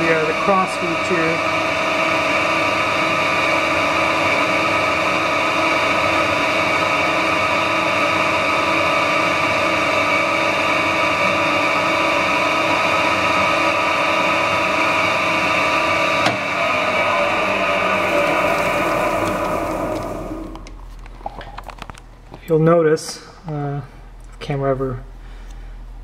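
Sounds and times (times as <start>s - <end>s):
metal lathe whining: 0.0s - 21.0s.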